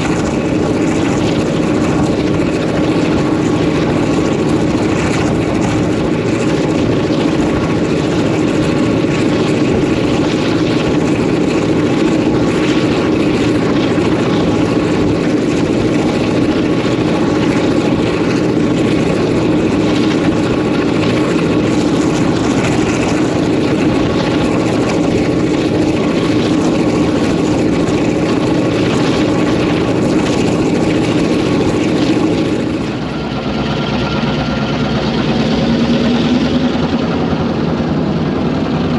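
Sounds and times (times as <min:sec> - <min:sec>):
locomotive diesel engine running: 0:00.0 - 0:38.9.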